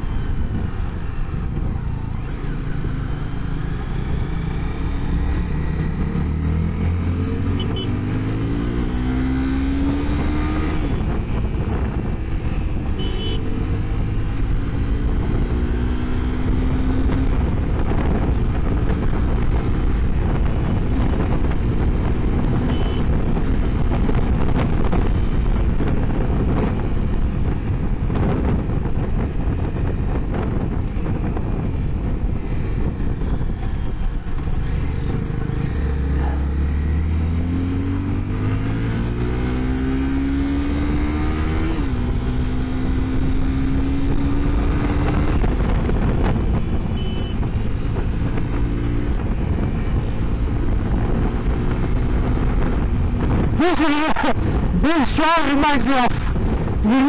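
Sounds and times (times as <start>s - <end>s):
motorcycle engine accelerating: 0.0s - 54.7s
wind on microphone: 0.0s - 57.0s.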